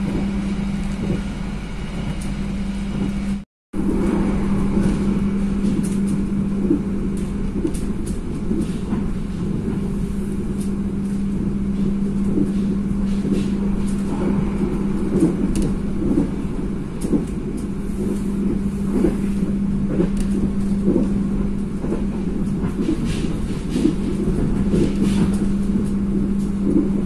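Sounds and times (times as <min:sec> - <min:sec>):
steady hum: 0:00.0 - 0:27.0
train coach rumble: 0:00.0 - 0:27.0.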